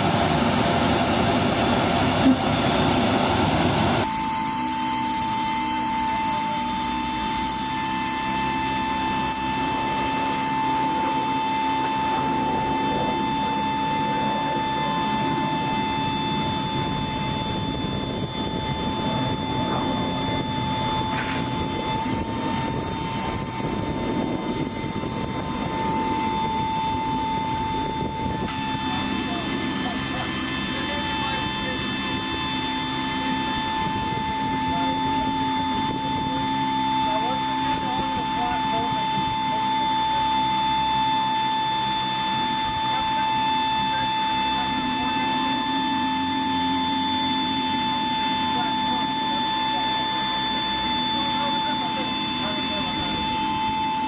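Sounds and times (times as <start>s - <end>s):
jet engine noise: 0.0s - 54.0s
steady hum: 0.0s - 54.0s
steady whine: 0.0s - 54.0s.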